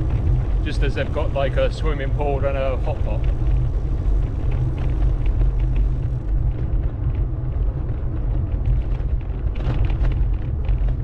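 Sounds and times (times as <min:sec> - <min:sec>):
road noise: 0:00.0 - 0:10.8
wind rumble on microphone: 0:00.0 - 0:11.0.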